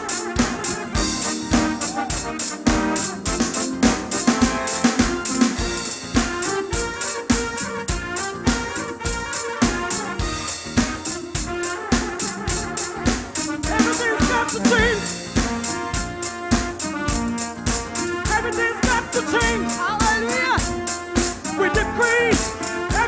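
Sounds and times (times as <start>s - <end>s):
drum kit fast beat: 0.0s - 23.0s
sustained keyboard notes: 0.0s - 23.0s.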